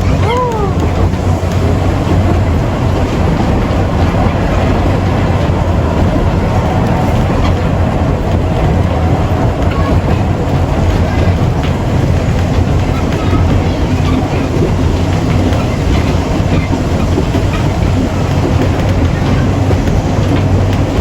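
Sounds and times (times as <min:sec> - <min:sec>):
tram rumbling on rails: 0:00.0 - 0:21.0.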